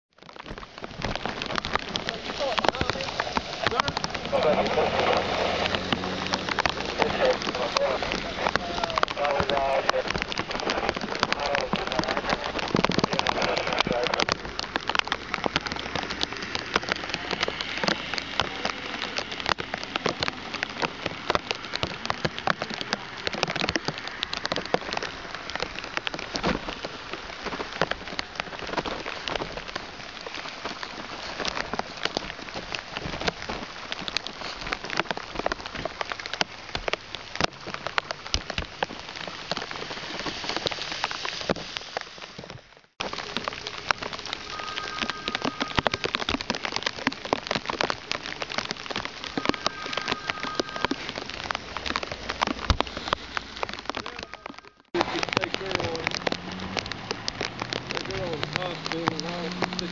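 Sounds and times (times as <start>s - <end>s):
rain falling: 0.1s - 59.9s.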